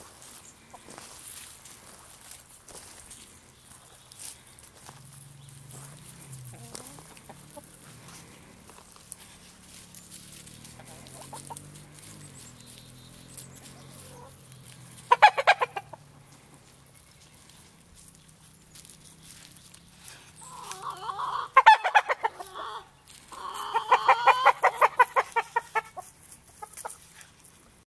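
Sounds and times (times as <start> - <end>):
chickens clucking: 0.1 - 27.5.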